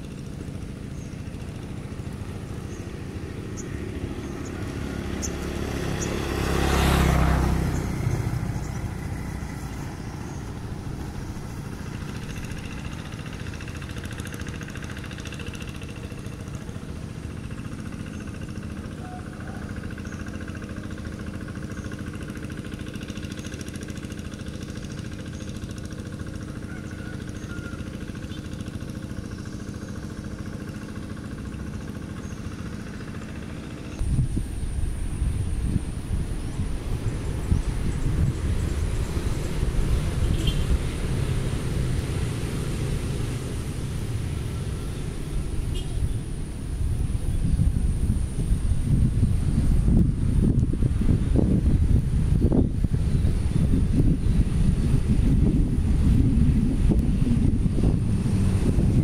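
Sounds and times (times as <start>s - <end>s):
diesel engine running: 0.0s - 59.0s
wheels driving through mud: 0.0s - 59.0s.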